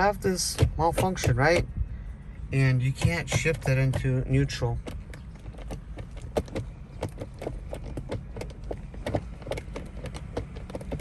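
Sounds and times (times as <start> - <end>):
gear selector lever clicking: 0.0 - 11.0.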